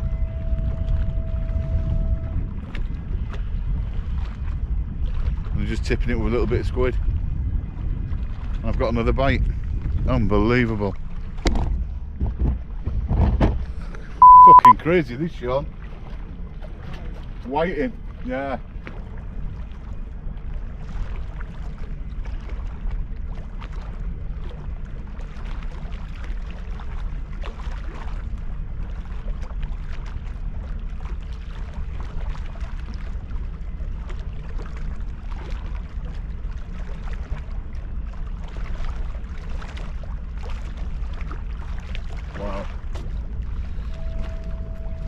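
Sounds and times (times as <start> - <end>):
wind rumbling on microphone: 0.0 - 14.3, 15.5 - 45.0
small waves lapping and splashing: 0.0 - 45.0.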